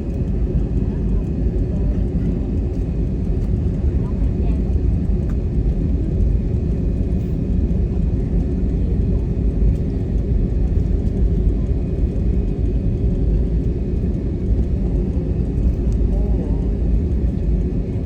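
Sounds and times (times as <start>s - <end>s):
jet airliner rumble: 0.0s - 18.0s.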